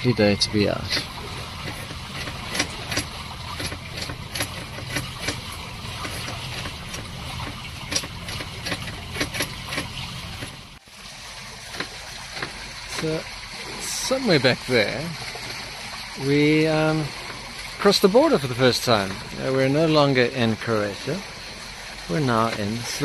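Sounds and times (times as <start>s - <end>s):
low steady motor hum: 0.0s - 23.0s
water rushing along a hull: 0.0s - 23.0s
small splashes and ticks: 0.6s - 23.0s.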